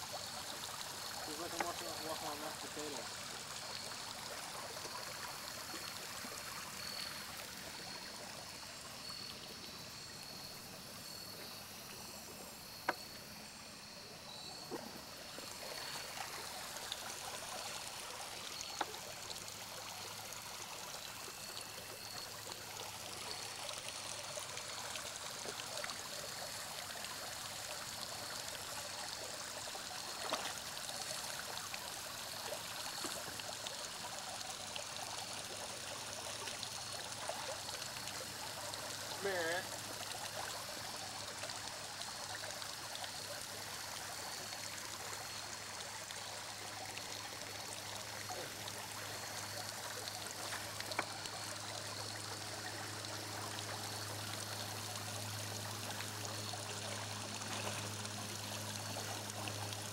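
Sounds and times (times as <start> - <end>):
creek water trickling over rocks: 0.0 - 59.9.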